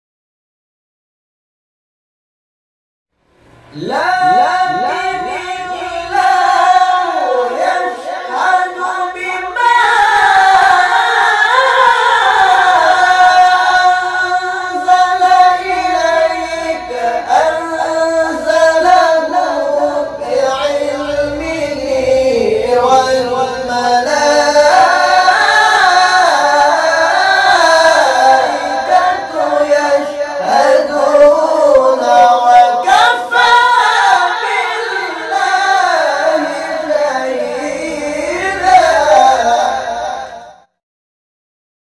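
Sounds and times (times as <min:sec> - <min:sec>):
two men reciting melodically: 0:03.5 - 0:40.8.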